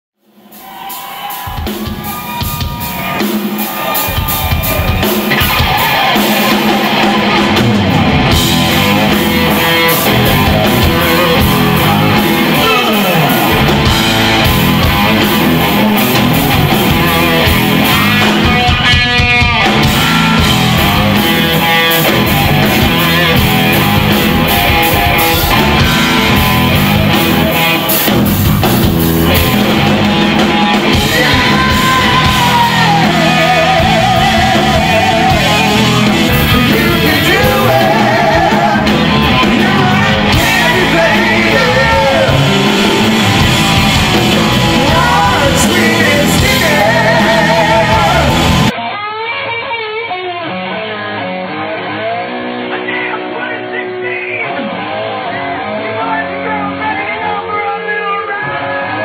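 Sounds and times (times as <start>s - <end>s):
hard rock band playing live: 0.2s - 59.0s.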